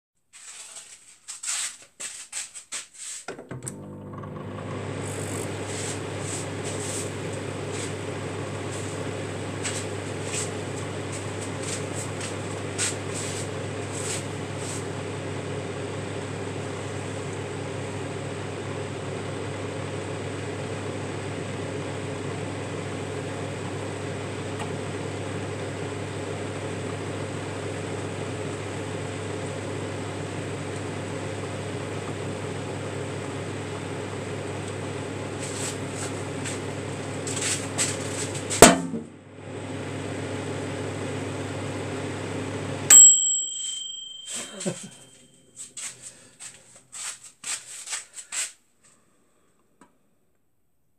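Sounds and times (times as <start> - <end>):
microwave oven humming: 3.4 - 45.6.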